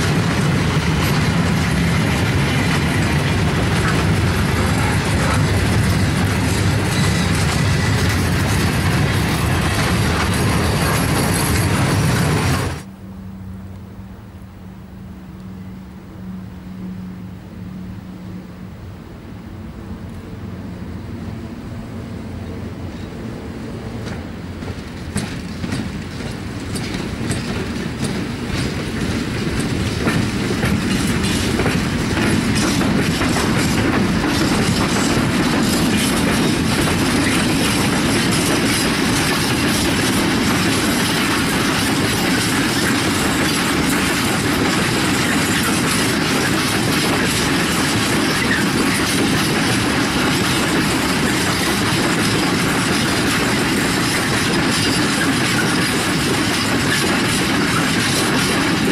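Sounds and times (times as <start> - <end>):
freight train wheels clattering: 0.0 - 12.9, 23.8 - 58.9.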